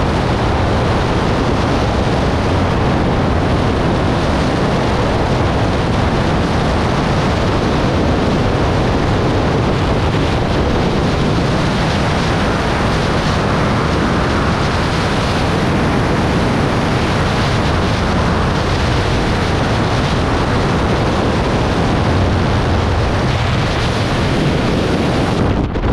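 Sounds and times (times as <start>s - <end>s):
freefall wind on microphone: 0.0s - 25.9s.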